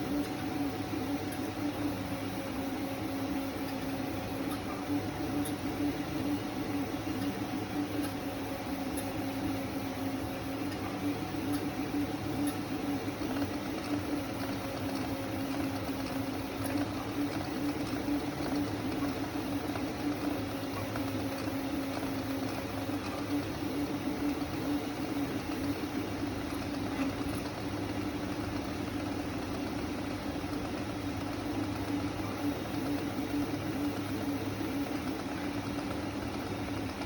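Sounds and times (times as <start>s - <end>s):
three d printers humming: 0.0s - 37.0s.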